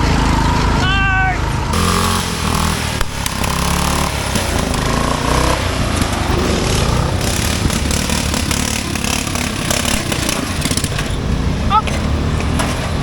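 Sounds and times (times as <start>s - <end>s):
lawn mower engines running: 0.0s - 13.0s.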